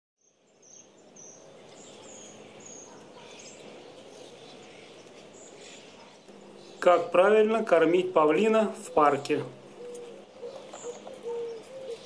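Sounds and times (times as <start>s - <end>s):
steady background hiss: 0.3s - 12.0s.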